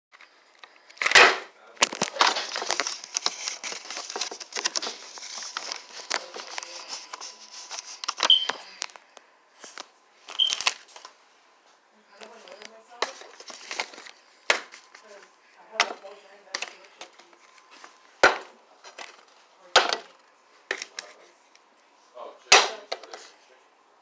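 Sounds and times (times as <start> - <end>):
plastic packaging crinkling: 0.2 - 11.2, 12.1 - 21.2.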